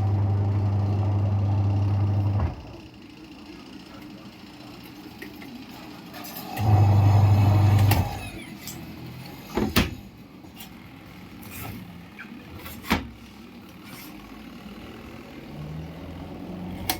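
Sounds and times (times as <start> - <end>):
washing machine motor hum: 0.0 - 16.9.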